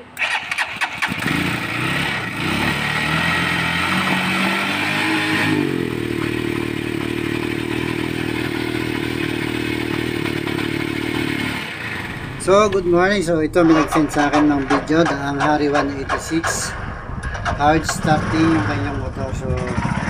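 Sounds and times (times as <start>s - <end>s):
motorcycle engine running: 0.8s - 20.0s.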